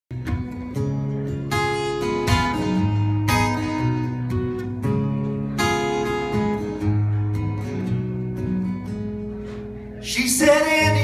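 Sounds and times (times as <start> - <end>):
acoustic guitar strumming: 0.1 - 11.0.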